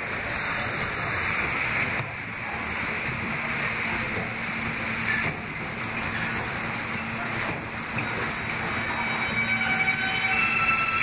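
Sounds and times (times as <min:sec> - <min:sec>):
subway train running past: 0:00.0 - 0:11.0.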